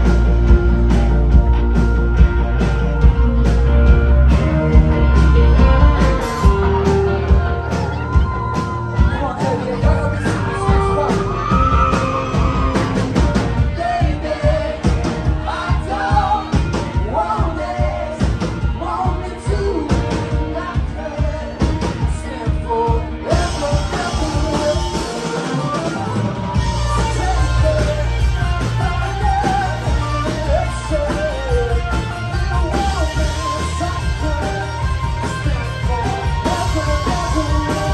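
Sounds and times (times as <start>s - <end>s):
drums: 0.0s - 37.9s
electric guitars: 0.0s - 37.9s
rock band playing: 0.0s - 37.9s
person singing: 5.3s - 37.9s.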